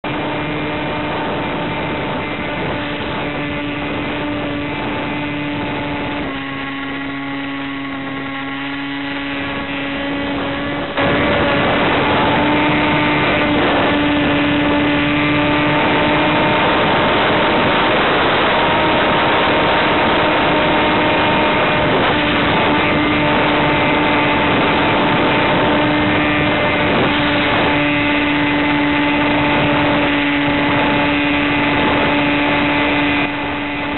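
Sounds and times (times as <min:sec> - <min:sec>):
model plane motor whine: 0:00.0 - 0:33.9.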